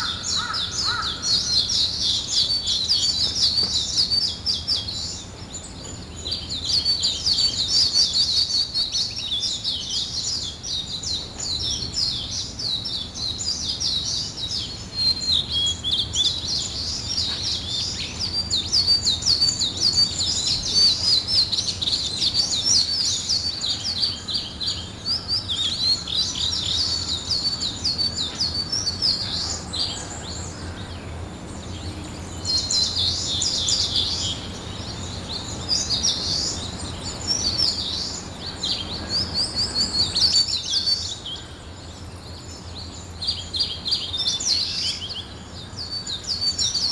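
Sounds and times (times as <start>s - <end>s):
songbirds chirping and singing: 0.0s - 46.9s.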